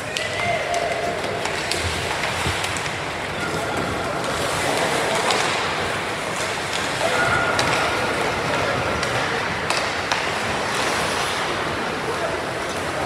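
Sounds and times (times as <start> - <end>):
hockey sticks and puck clacking: 0.0 - 12.0
skates scraping ice: 0.6 - 13.0.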